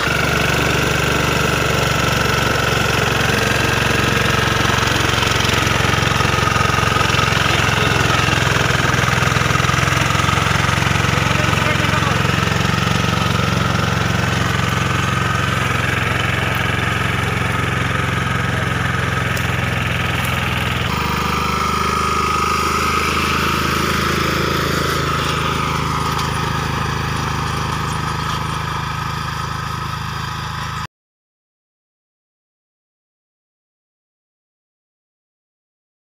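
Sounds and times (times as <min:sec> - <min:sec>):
mini tractor engine running: 0:00.0 - 0:30.9.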